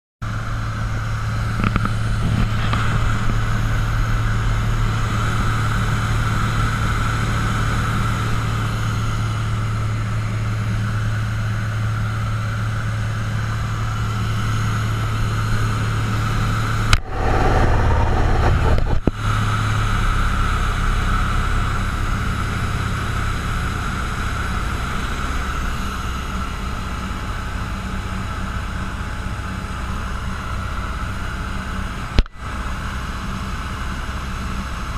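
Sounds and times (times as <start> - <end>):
propeller plane engine droning: 0.2 - 34.9.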